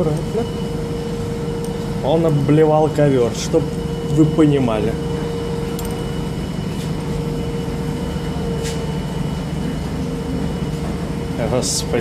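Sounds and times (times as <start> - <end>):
washing machines and dryers humming: 0.0 - 12.0.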